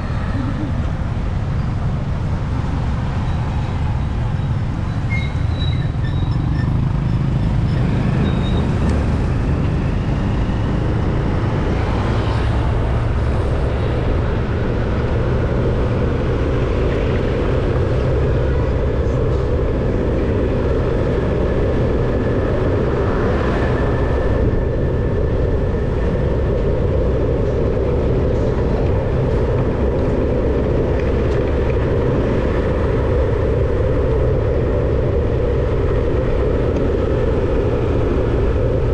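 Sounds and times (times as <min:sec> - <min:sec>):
vehicle engine and tyre rumble: 0:00.0 - 0:38.9.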